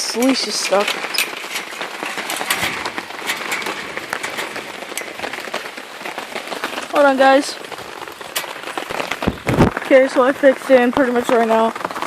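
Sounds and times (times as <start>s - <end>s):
heavy rain pouring: 0.0s - 12.0s
raindrops ticking close by: 0.0s - 12.0s.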